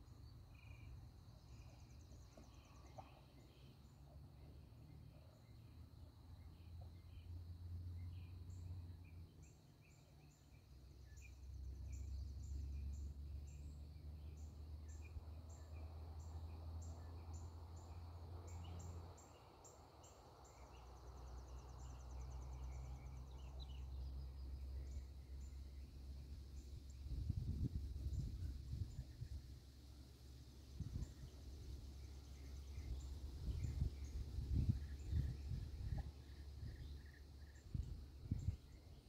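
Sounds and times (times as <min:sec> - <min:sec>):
songbirds singing: 0:00.0 - 0:39.0.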